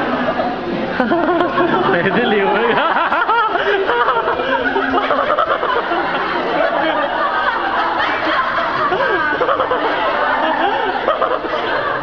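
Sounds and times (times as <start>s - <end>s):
crowd chattering and laughing: 0.0s - 12.0s.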